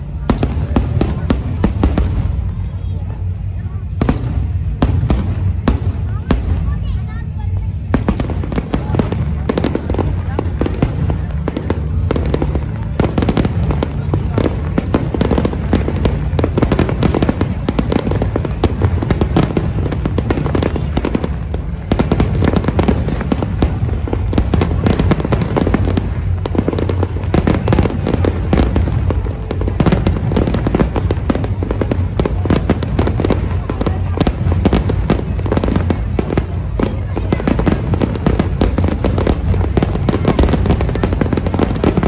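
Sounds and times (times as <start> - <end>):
deep booming rumble: 0.0 - 42.0
fireworks bangs and crackles: 0.0 - 42.0.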